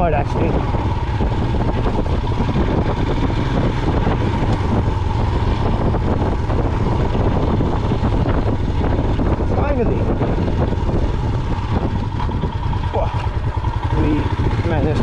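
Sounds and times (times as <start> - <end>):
motorcycle engine running: 0.0 - 15.0
noisy rush: 0.0 - 15.0.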